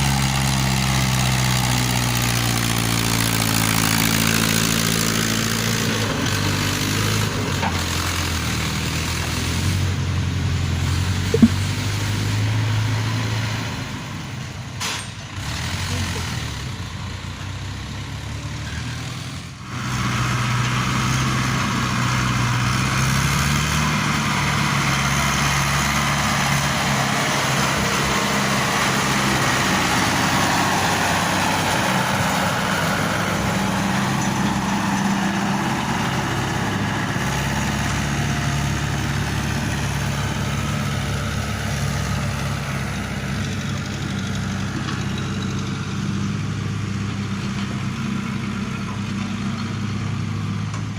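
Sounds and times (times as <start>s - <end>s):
heavy vehicle diesel engine running: 0.0s - 50.9s.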